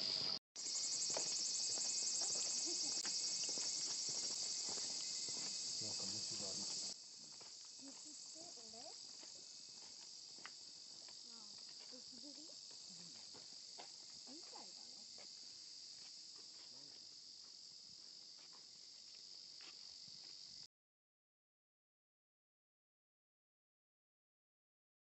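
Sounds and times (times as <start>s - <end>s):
high-pitched insect chorus: 0.0s - 20.7s.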